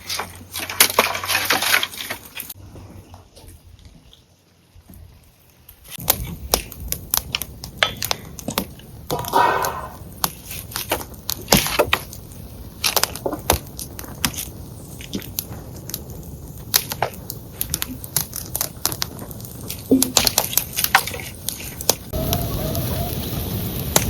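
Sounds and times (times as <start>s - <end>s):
dry wood cracking and snapping: 0.0s - 2.6s, 3.4s - 22.5s.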